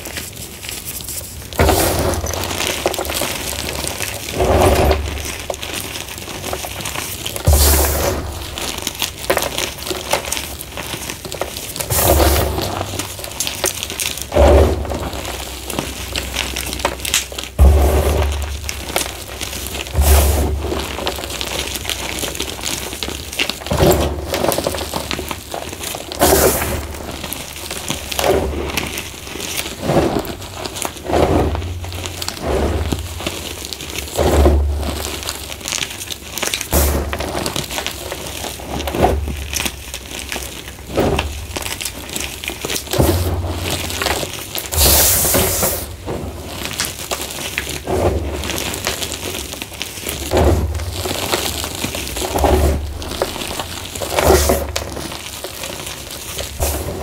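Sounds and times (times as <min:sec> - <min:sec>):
hands crushing chalk: 0:00.0 - 0:57.0.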